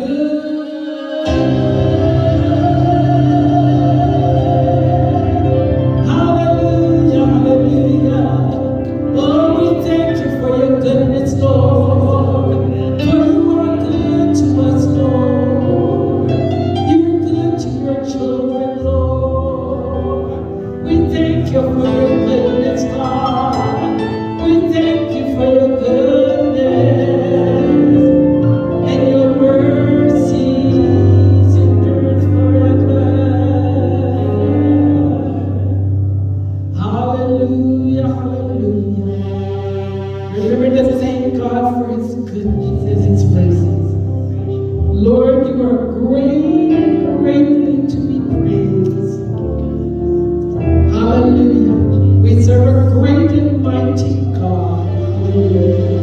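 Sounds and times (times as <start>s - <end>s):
slow gospel worship music: 0.0s - 56.0s.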